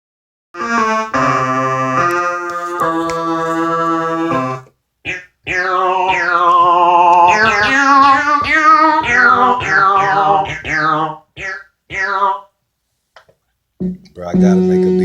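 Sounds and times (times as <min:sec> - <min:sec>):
synth notes sliding down: 0:00.6 - 0:04.6, 0:05.5 - 0:12.4, 0:13.8 - 0:15.0
held keyboard chords: 0:00.6 - 0:04.7, 0:05.5 - 0:12.4, 0:13.8 - 0:15.0.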